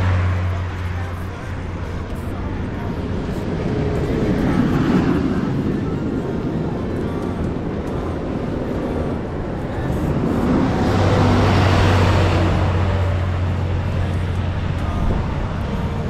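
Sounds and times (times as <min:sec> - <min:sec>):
low engine hum: 0:00.0 - 0:16.0
vehicle passing by: 0:00.0 - 0:16.0.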